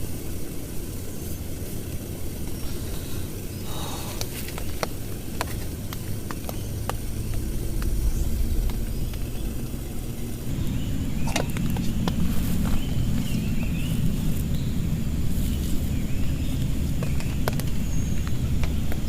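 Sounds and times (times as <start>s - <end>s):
heavy rain on a tent: 0.0s - 19.0s
large raindrops tapping: 0.0s - 19.0s.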